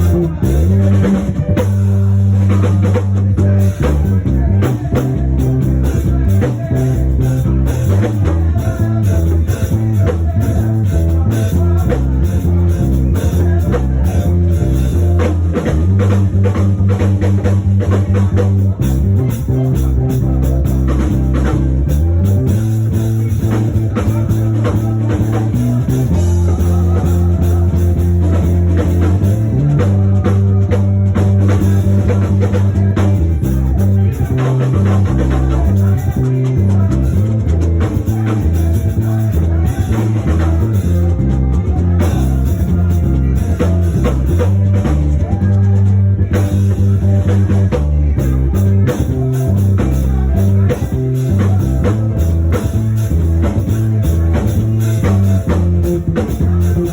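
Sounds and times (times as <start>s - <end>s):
bass guitar long low notes: 0.0s - 56.9s
drum kit: 0.0s - 56.9s
guitar: 0.0s - 56.9s.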